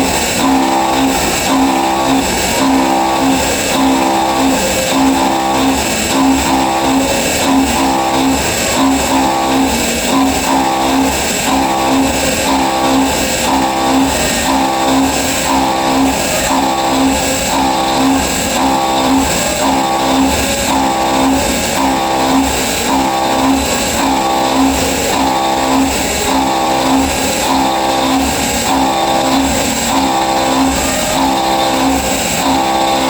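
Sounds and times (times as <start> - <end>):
milling machine cutting metal: 0.0 - 33.0.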